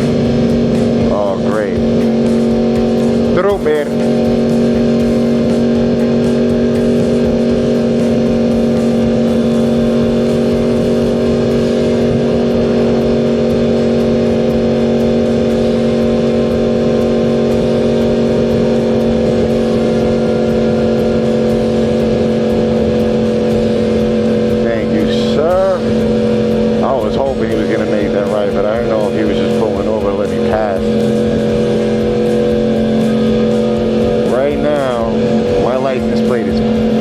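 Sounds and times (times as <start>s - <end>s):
motorcycle engine cruising: 0.0s - 37.0s
wind rumble on microphone: 0.0s - 37.0s.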